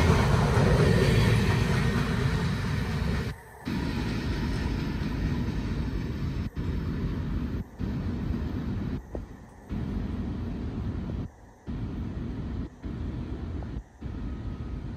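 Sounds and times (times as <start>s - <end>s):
freight train cars rumbling: 0.0s - 14.9s.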